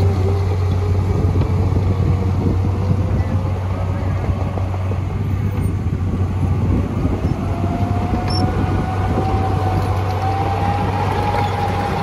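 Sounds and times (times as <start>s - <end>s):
diesel machine running: 0.0s - 12.0s.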